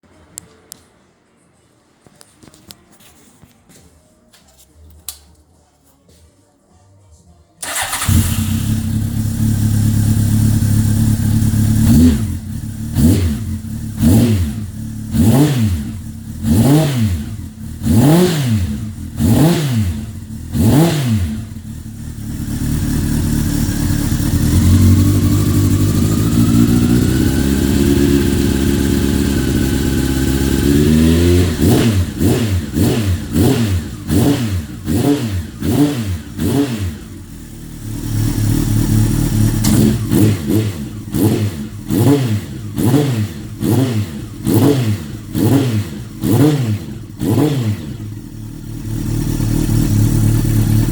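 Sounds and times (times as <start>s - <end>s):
motorcycle engine idling and revving: 7.6s - 50.9s.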